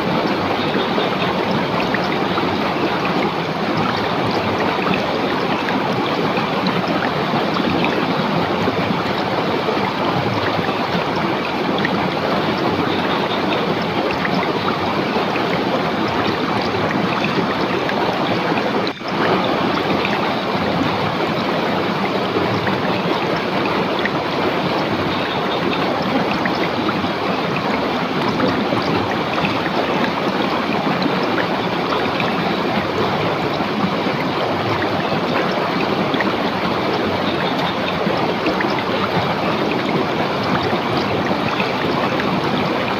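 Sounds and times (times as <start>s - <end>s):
river water rushing over rocks: 0.0s - 42.9s.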